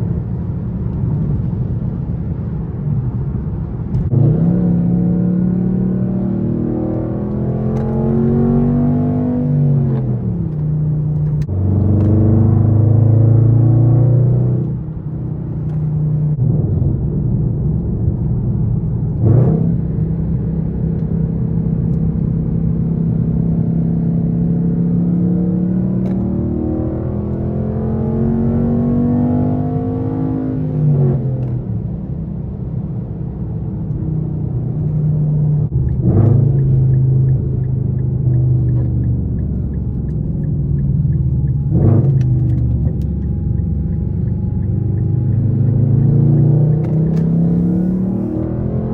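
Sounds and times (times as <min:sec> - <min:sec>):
car exhaust accelerating: 0:00.0 - 0:48.9.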